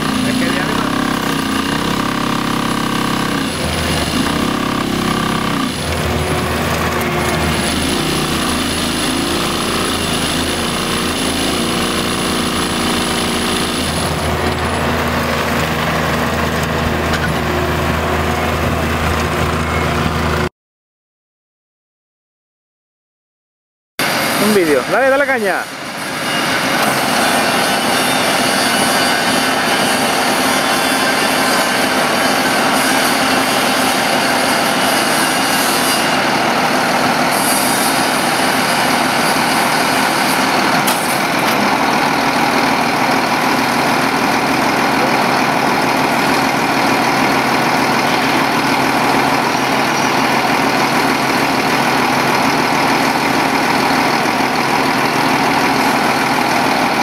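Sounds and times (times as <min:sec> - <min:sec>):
truck diesel engine running: 0:00.0 - 0:20.5, 0:24.0 - 0:57.0.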